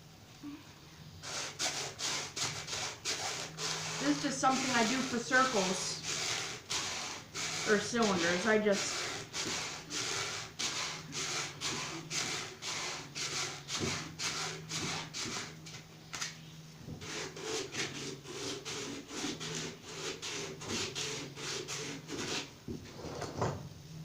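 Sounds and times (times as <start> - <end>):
hand sanding metal: 1.2 - 15.8, 17.0 - 22.5.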